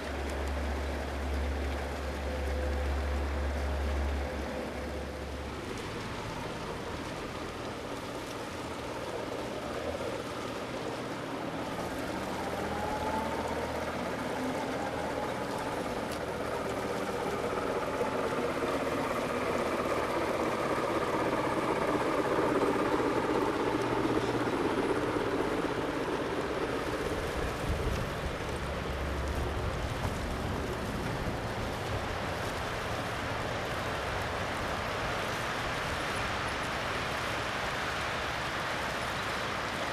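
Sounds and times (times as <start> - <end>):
model train wheels rolling: 0.0 - 39.9.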